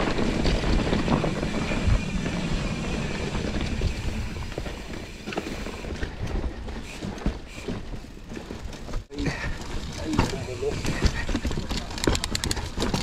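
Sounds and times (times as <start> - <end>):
bike tyres rumbling: 0.0 - 13.0
mountain bike rattling over rocks: 0.0 - 13.0.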